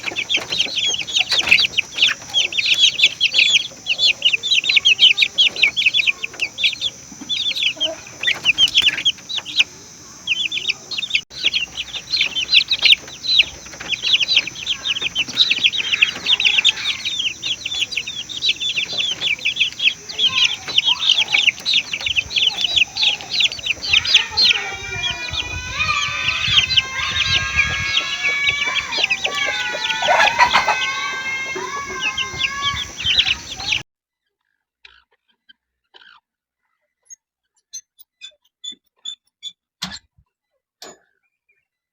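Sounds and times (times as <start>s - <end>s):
birds chattering: 0.0s - 33.8s.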